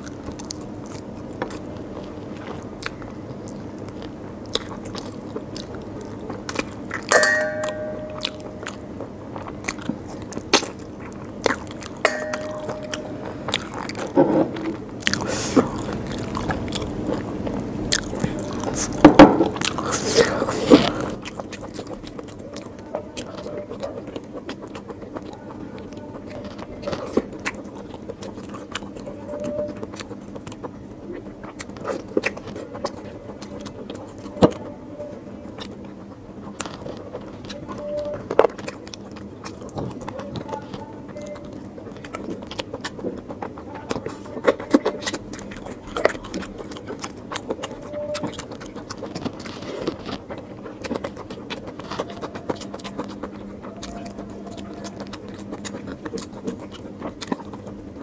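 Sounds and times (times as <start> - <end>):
wet chewing and mouth clicks: 0.0 - 58.0.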